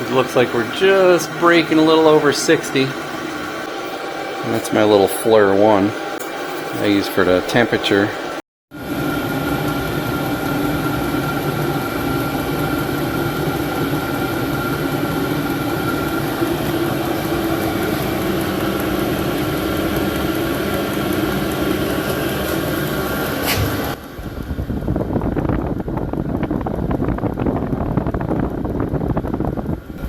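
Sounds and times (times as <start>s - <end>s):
air heater fan whirring: 0.0s - 30.0s.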